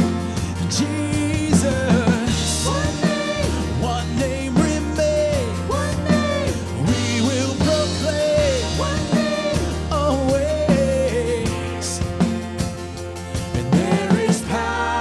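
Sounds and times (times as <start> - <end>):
bass: 0.0 - 15.0
drum kit: 0.0 - 15.0
worship band music: 0.0 - 15.0.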